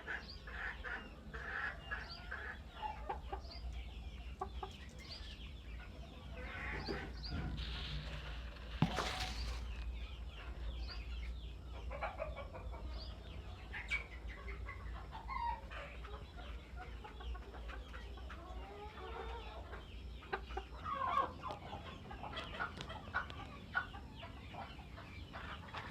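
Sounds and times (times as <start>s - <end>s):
chickens clucking and chirping: 0.0s - 25.9s.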